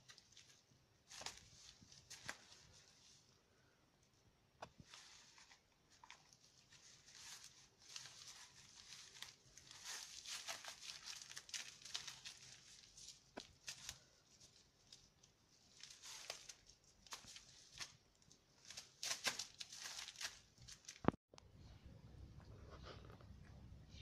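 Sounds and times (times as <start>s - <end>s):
bubble wrap crinkling and rustling: 0.0s - 3.4s, 4.7s - 21.2s.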